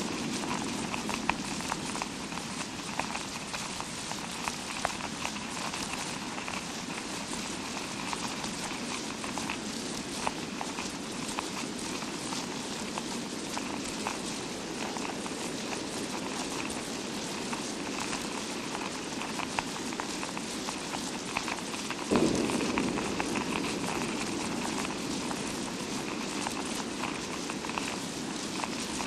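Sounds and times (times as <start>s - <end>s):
imitation rain: 0.0s - 29.0s.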